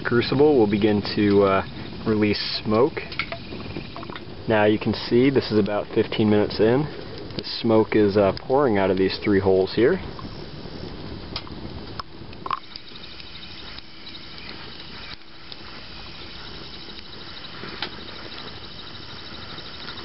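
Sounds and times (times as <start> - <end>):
fire popping and crackling: 0.0 - 20.0
wood fire hissing: 0.0 - 20.0.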